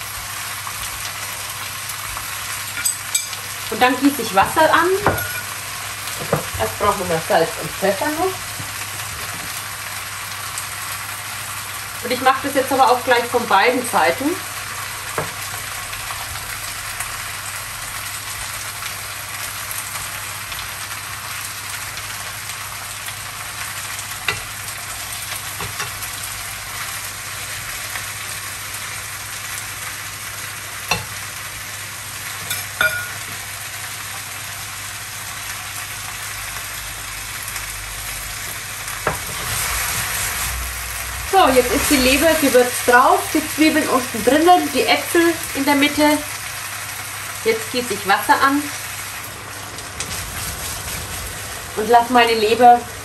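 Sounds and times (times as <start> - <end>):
liver frying in a pan: 0.0 - 53.0.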